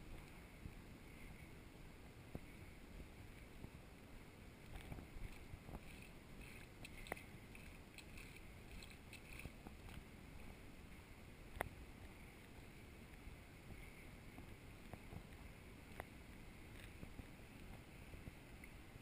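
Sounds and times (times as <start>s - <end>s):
wind and motion rumble: 0.0s - 19.0s.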